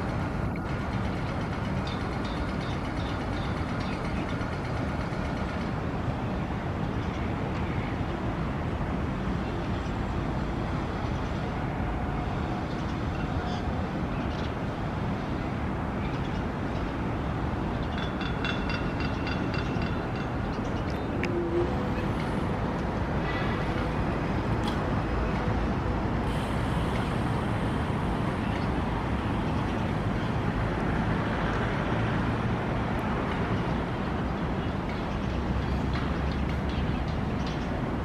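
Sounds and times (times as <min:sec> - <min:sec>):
low rumble of vehicles: 0:00.0 - 0:38.0.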